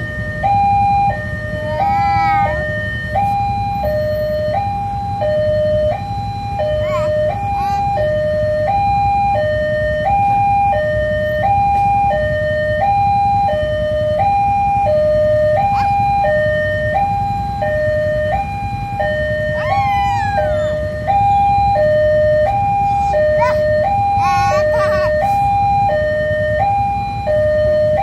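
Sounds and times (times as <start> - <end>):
two-tone crossing alarm: 0.0 - 28.0.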